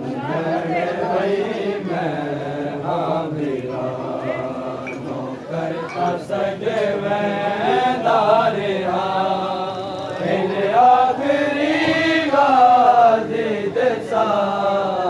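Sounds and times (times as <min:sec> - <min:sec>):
men chanting in melodic lines: 0:00.2 - 0:15.0.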